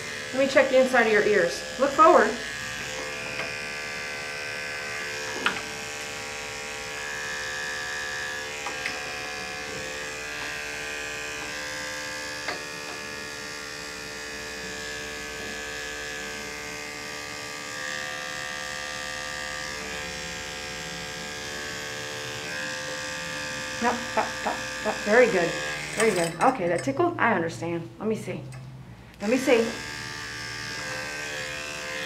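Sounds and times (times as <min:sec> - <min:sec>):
electric clippers running: 0:00.0 - 0:26.6, 0:29.2 - 0:32.0.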